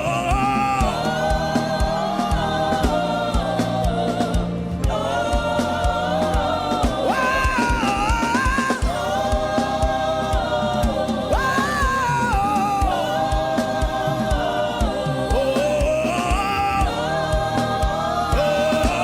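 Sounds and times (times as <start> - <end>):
steady drum beat: 0.0 - 19.0
voices singing gospel: 0.0 - 19.0.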